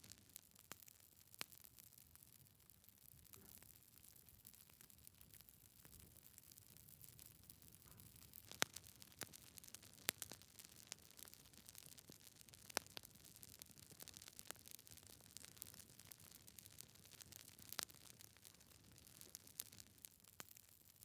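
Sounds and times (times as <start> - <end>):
logs crackling in fireplace: 4.0 - 21.0.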